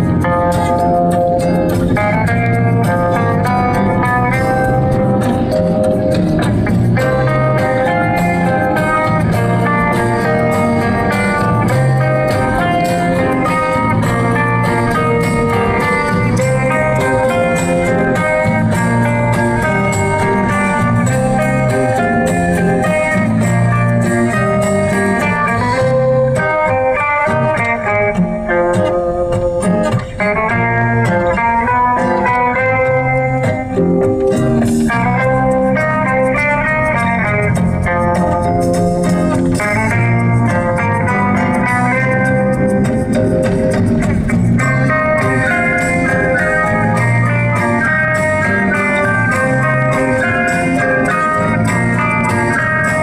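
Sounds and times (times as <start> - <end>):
slow bluesy guitar music: 0.0 - 53.0.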